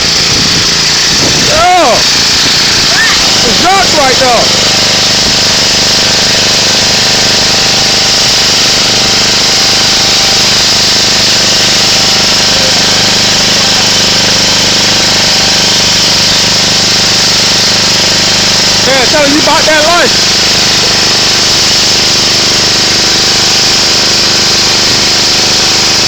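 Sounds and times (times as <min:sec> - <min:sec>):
pressure washer machine drone: 0:00.0 - 0:26.0
water spray hissing: 0:00.0 - 0:26.0.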